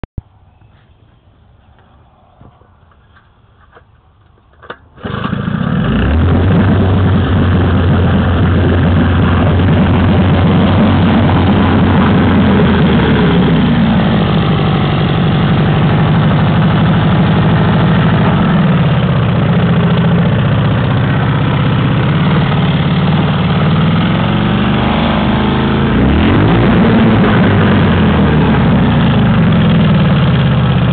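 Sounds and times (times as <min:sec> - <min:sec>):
outboard motor running: 0:05.0 - 0:30.9.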